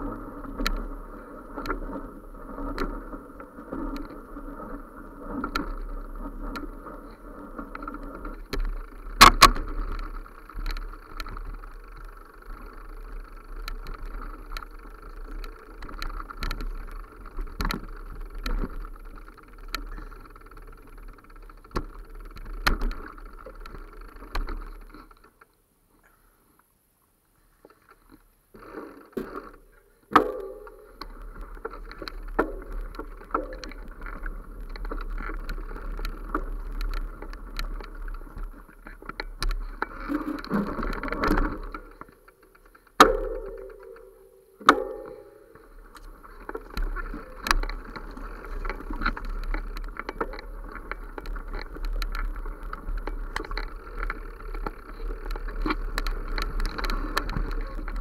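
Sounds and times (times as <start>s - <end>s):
camera handling rumble and rustle: 0.0s - 26.1s, 27.5s - 44.8s, 45.4s - 58.0s
sharp clicks and knocks: 7.5s - 25.5s, 29.1s - 58.0s.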